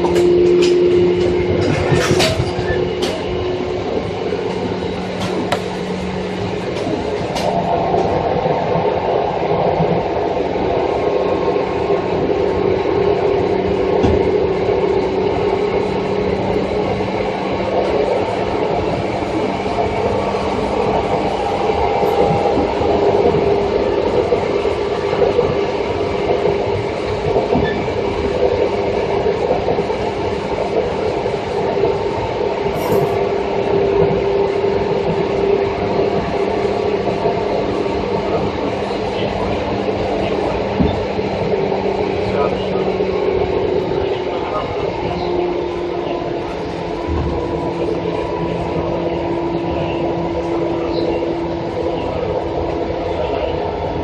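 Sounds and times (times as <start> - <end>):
train hum: 0.0 - 54.0
wheels rumbling on rail: 0.0 - 54.0.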